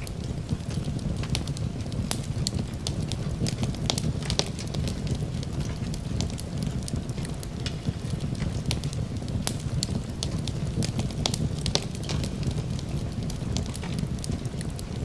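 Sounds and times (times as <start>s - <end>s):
rain hiss: 0.0s - 15.0s
wood fire crackling and popping: 0.0s - 15.0s.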